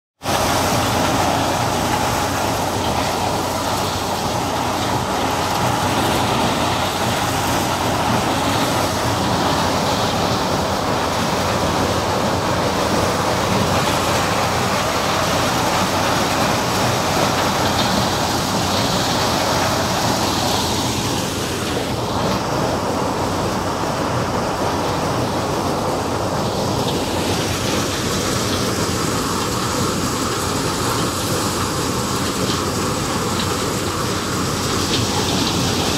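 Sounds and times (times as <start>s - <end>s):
threshing machine clatter and rumble: 0.2s - 35.9s.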